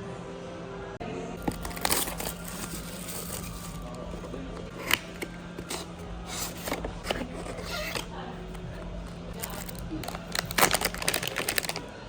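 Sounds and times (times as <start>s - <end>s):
hands rustling packaging: 1.4s - 11.9s.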